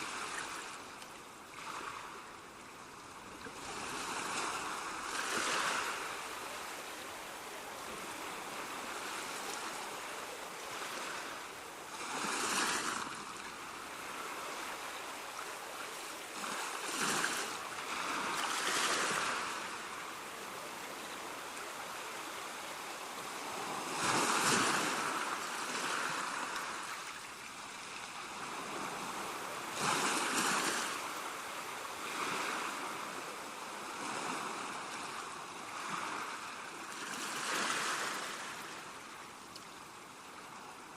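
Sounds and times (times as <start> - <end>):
waves surging: 0.0 - 40.9.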